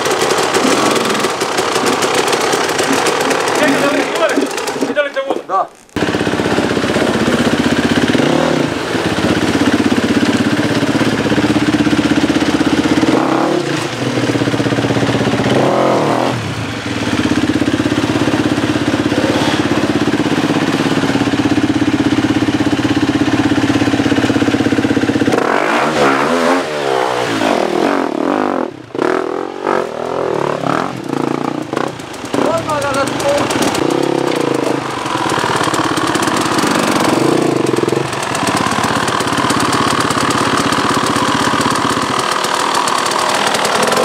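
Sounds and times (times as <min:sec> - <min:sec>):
dirt bike engine revving: 0:00.0 - 0:05.2, 0:06.0 - 0:44.0.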